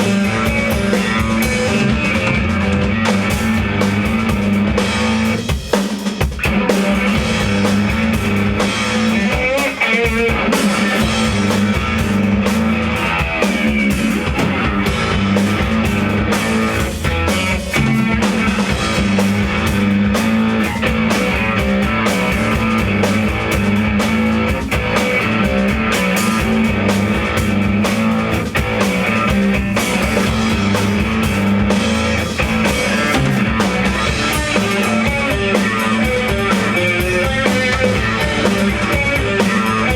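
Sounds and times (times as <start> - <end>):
distorted electric guitar: 0.0 - 39.9
drum kit: 0.0 - 39.9.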